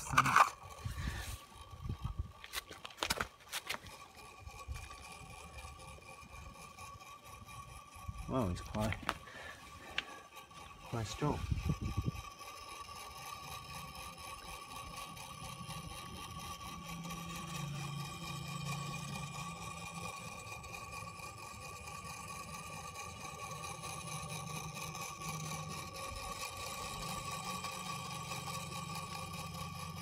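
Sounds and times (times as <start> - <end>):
toy motor whirring: 0.0 - 30.0.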